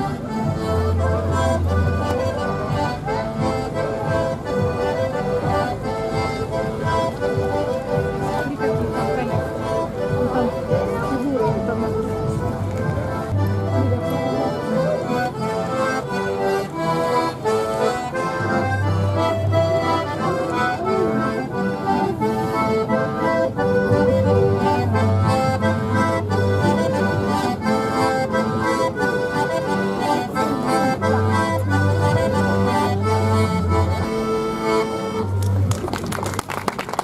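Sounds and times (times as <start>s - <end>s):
accordion music with steady beat: 0.0s - 37.0s.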